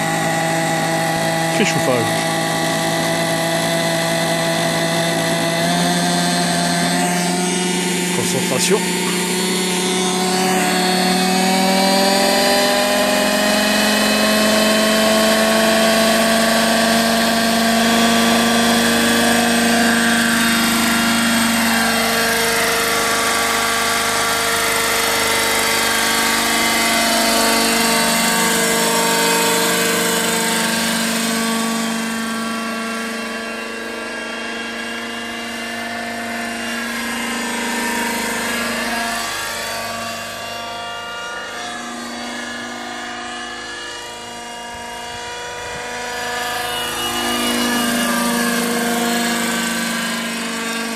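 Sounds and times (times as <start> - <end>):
model helicopter engine whine: 0.0 - 50.9.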